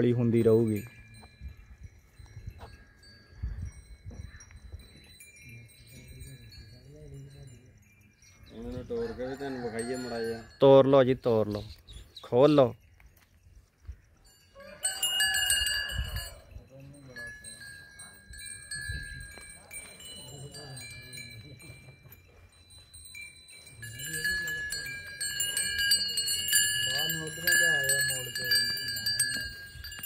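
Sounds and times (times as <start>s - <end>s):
bull's neck bells ringing: 0.0s - 11.8s, 14.1s - 30.0s.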